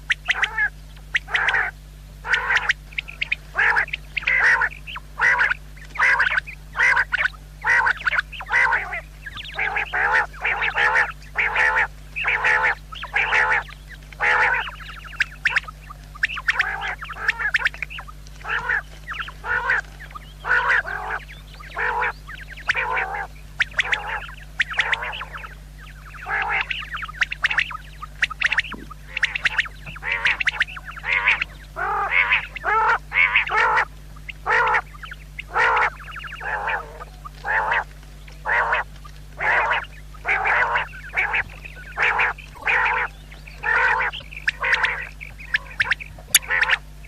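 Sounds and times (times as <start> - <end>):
faint low hum: 0.0 - 47.0
quail calling: 0.0 - 47.0.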